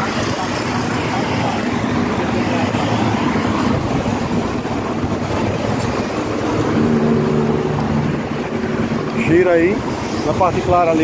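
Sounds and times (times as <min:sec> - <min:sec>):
street traffic noise: 0:00.0 - 0:11.0
vehicle engine hum: 0:00.0 - 0:11.0.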